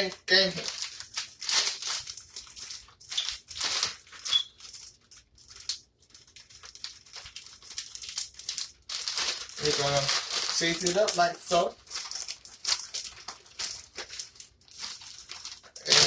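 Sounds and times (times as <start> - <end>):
bag rustling and crinkling: 0.4 - 16.0.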